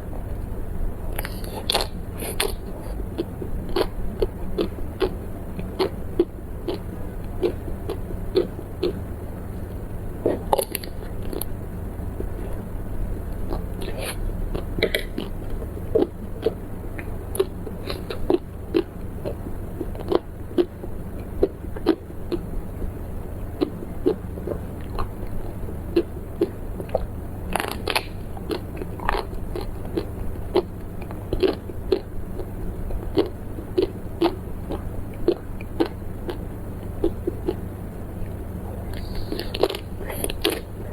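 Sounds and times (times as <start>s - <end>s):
steady low hum: 0.0s - 40.9s
chewing crunchy food: 0.2s - 40.9s.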